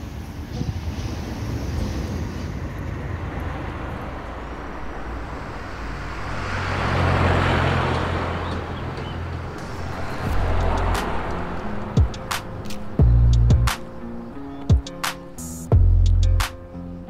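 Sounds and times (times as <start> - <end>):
road traffic rumble: 0.0 - 17.0
vehicle passing by: 1.8 - 15.8.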